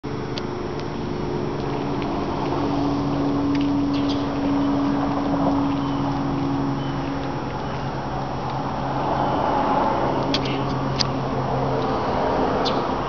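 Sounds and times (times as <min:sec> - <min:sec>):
steady mechanical drone: 0:00.0 - 0:13.0.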